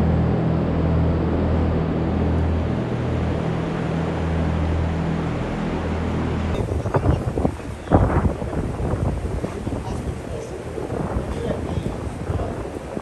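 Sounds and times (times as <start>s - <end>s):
motor droning: 0.0s - 13.0s.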